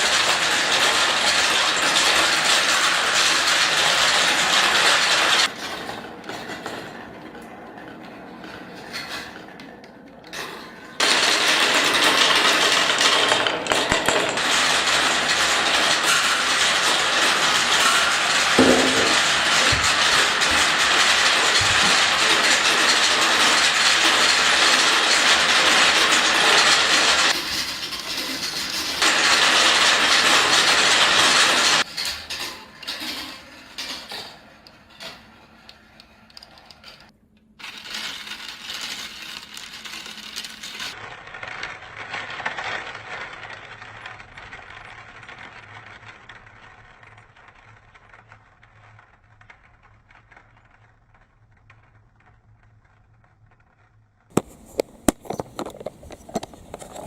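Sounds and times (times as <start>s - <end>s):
balls clattering down plastic track: 0.0s - 57.0s.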